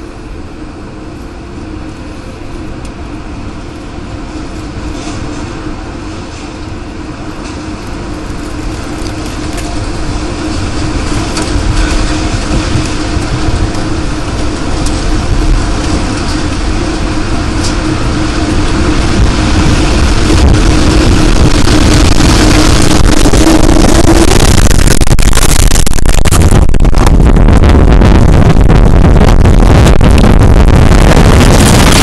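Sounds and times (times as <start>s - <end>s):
tornado winds roaring: 0.0s - 32.0s
steady tone: 5.5s - 32.0s.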